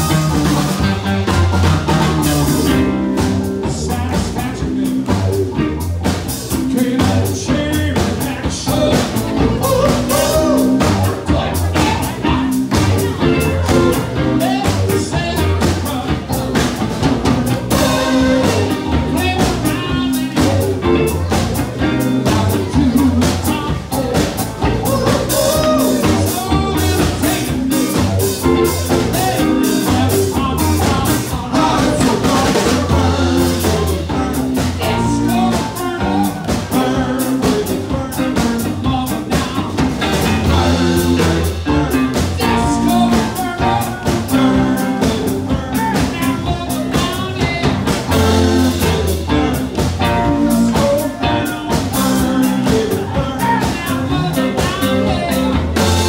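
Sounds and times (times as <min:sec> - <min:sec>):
bass line: 0:00.0 - 0:56.0
drum kit: 0:00.0 - 0:56.0
electric guitar: 0:00.0 - 0:56.0
person singing: 0:00.0 - 0:56.0.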